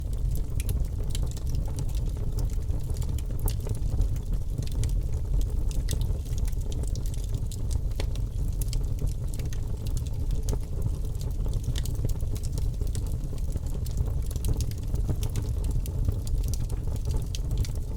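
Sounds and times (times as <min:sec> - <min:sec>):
wood fire crackling in fireplace: 0:00.0 - 0:17.9.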